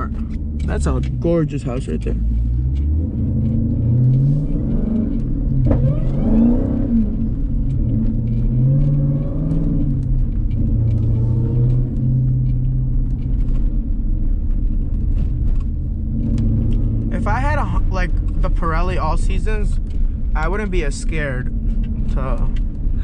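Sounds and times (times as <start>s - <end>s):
car engine rumbling at low revs: 0.0s - 23.0s.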